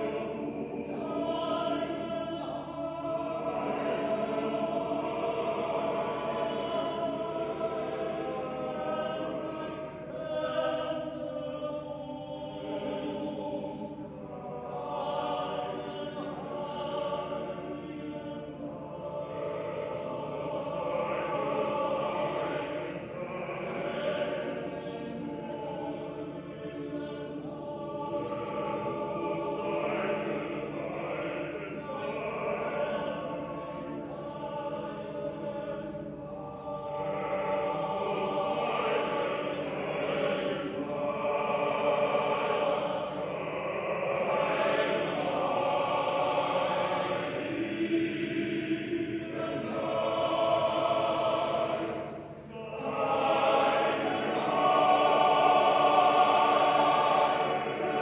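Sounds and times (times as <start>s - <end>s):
male chorus singing chords: 0.0s - 58.0s.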